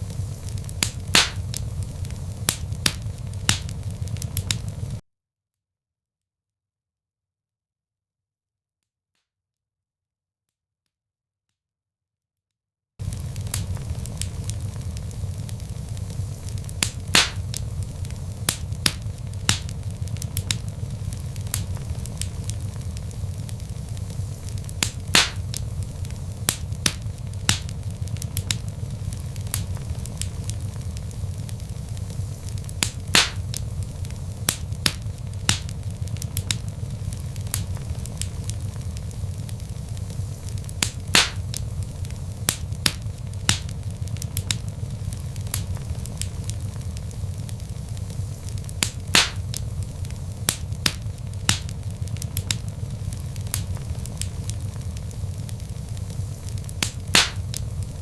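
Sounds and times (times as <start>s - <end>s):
log fire crackling: 0.0s - 5.0s, 13.0s - 58.0s
loud fire pop: 0.0s - 5.0s, 13.0s - 58.0s
low fire rumble: 0.0s - 5.0s, 13.0s - 58.0s.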